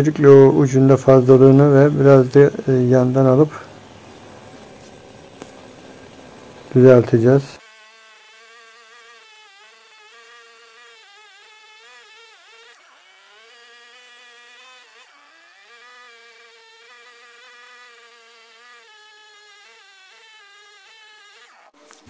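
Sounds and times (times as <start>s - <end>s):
power tool motor cutting log: 0.0s - 22.0s.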